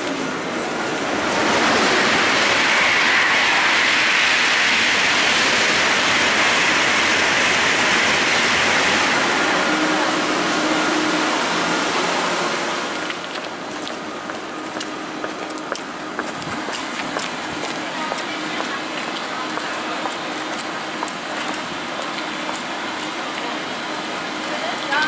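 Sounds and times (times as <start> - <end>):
train rushing noise: 0.0 - 25.0.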